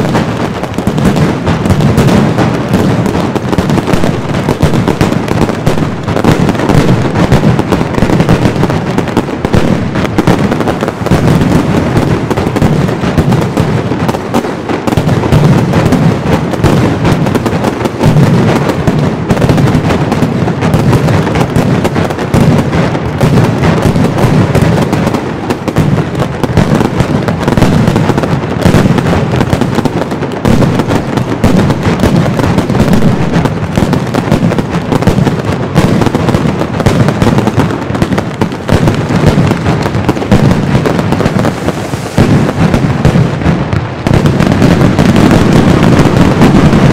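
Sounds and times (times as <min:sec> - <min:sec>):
firecracker barrage rumble: 0:00.0 - 0:46.9.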